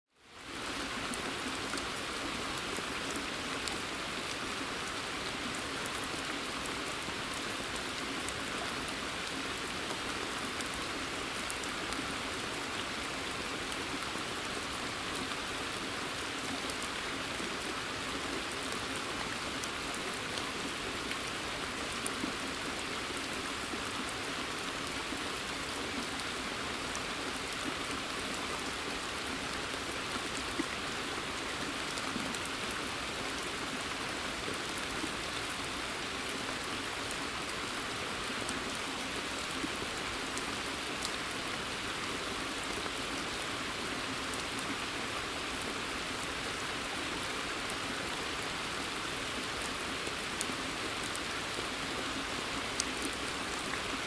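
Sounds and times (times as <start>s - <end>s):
steady rain falling: 0.1s - 54.0s.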